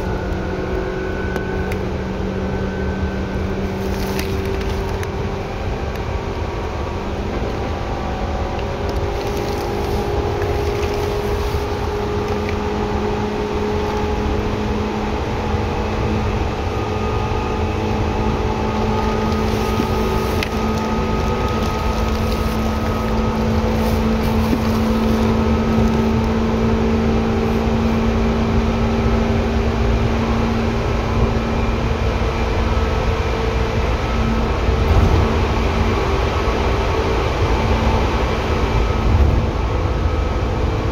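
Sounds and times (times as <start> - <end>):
electric train rumble: 0.0 - 40.9.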